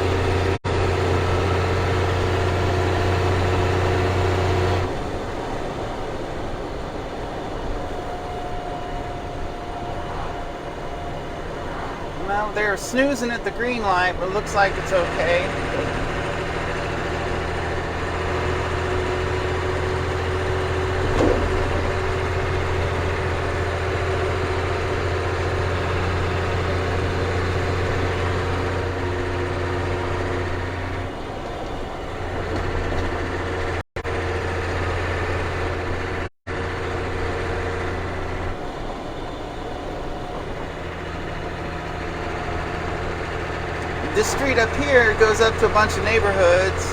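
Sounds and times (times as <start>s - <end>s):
diesel truck engine droning: 0.0s - 46.9s.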